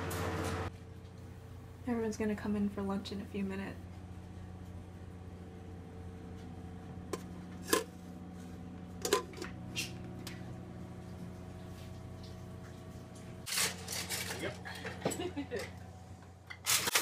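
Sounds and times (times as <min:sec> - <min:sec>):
steady low hum: 0:00.2 - 0:16.7.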